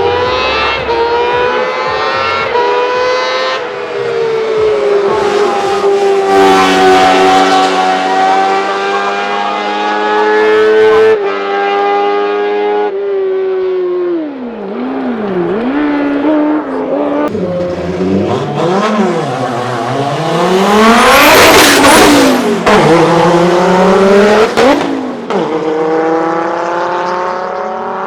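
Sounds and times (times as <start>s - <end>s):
race car engine revving past: 0.0s - 28.0s.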